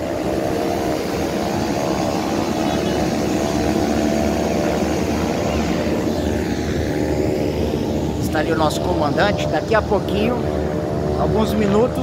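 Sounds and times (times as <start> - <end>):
turboprop engines humming: 0.0 - 12.0.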